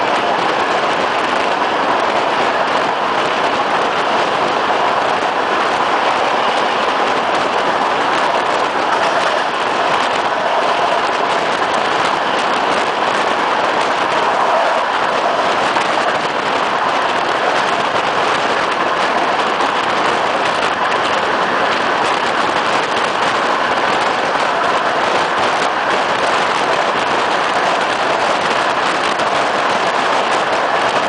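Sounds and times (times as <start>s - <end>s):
passenger train rolling: 0.0s - 31.0s
wind on microphone: 0.0s - 31.0s.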